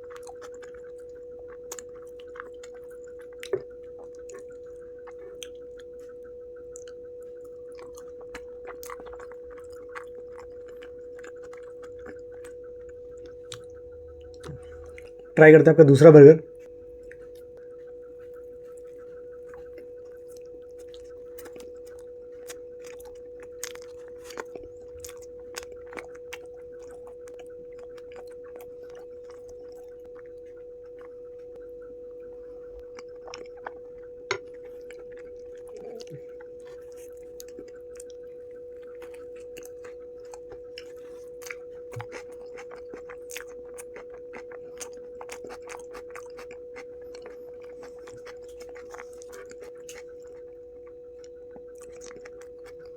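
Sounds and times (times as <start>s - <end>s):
chewing and biting food: 0.0s - 15.4s, 16.6s - 52.9s
steady humming tone: 0.0s - 52.9s.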